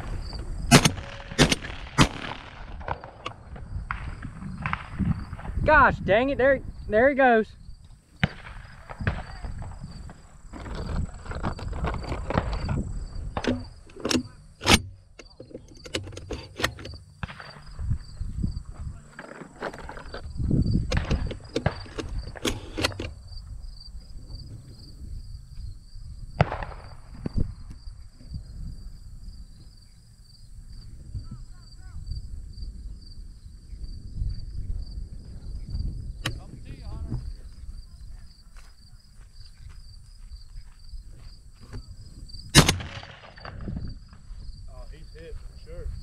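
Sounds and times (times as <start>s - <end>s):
insects chirping: 0.0s - 46.0s
wind on microphone: 2.6s - 7.0s, 7.6s - 13.9s, 17.7s - 19.0s, 20.2s - 29.7s, 30.6s - 46.0s.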